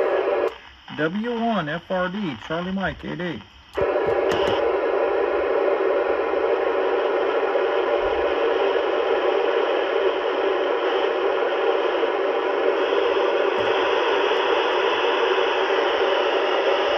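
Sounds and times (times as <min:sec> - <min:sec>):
radio static hiss: 0:00.0 - 0:16.9.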